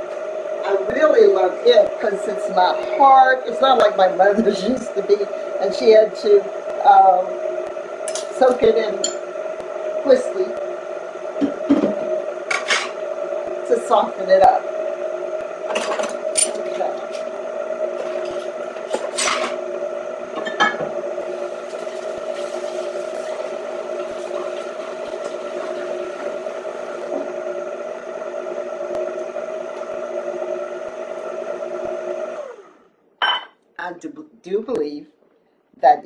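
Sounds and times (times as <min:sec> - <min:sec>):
stand mixer motor humming: 0:00.0 - 0:32.9.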